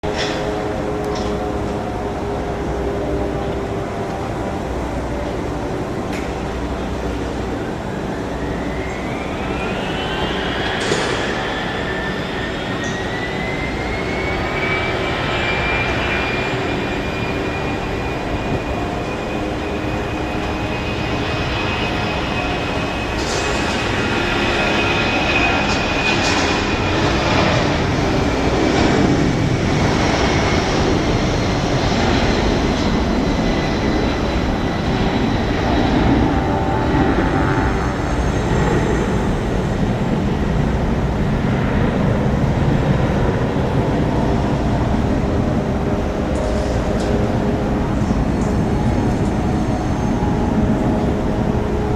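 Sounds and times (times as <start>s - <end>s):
jet engines spooling up: 0.0s - 51.9s.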